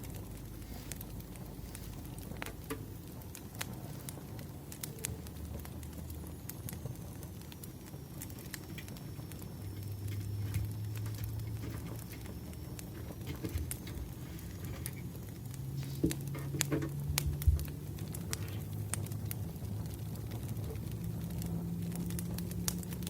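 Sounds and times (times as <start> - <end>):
campfire crackling and popping: 0.0 - 23.0
low steady rumble: 0.0 - 23.0.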